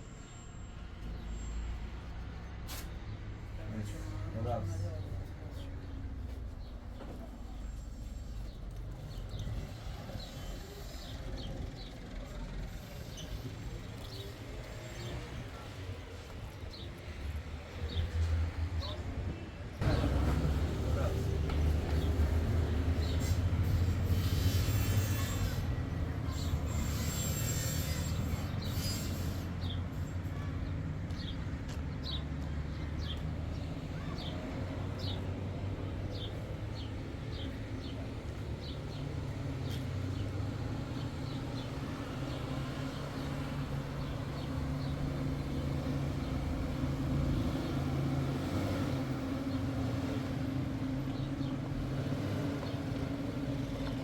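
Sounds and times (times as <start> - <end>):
vehicle hum: 0.0 - 54.0.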